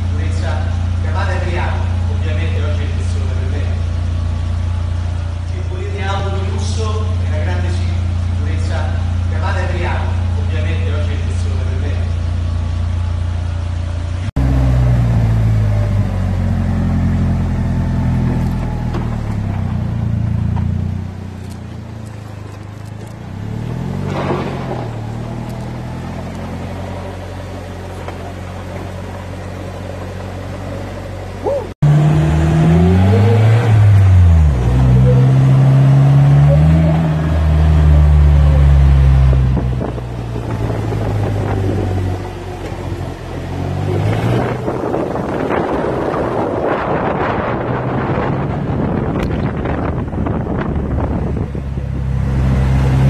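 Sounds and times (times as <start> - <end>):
roadster engine running: 0.0 - 53.0.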